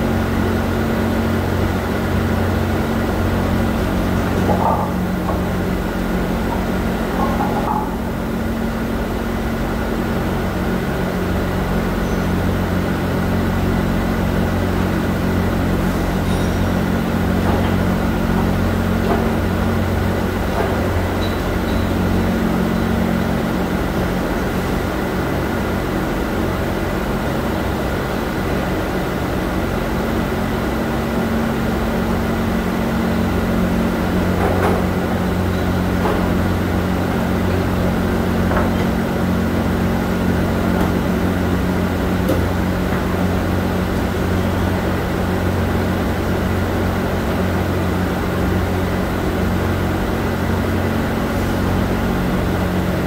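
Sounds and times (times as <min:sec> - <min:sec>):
factory machinery humming: 0:00.0 - 0:53.0.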